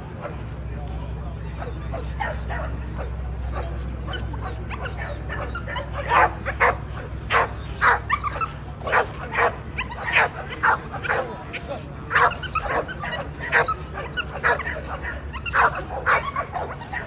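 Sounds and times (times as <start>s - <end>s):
dogs barking: 0.0s - 17.0s
steady low hum: 0.0s - 17.0s
dog yips: 1.6s - 17.0s.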